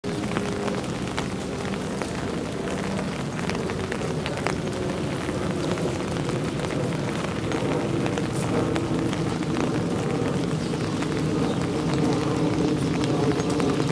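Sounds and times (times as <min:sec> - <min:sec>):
low even drone: 0:00.0 - 0:13.9
raindrops ticking on hard surfaces: 0:00.0 - 0:13.9.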